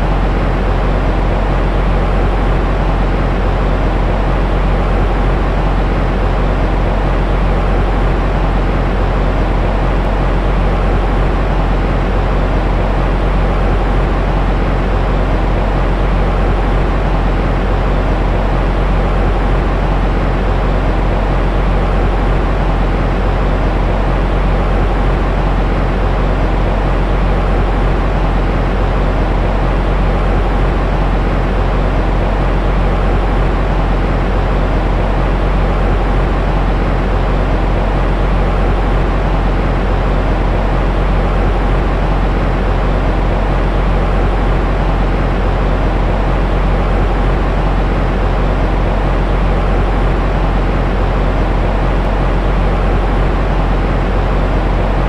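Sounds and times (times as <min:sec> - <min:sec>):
white noise low rumbling hiss: 0:00.0 - 0:55.0.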